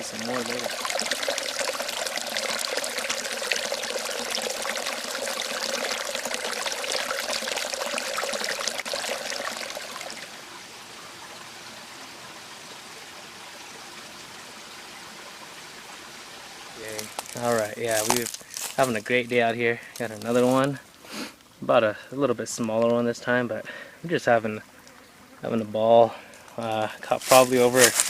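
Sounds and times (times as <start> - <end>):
creek water running and splashing: 0.0 - 21.2, 26.0 - 28.0.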